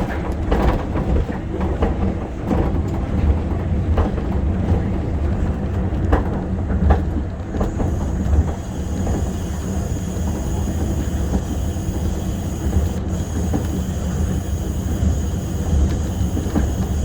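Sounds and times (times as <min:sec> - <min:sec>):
train rumbling inside: 0:00.0 - 0:17.0.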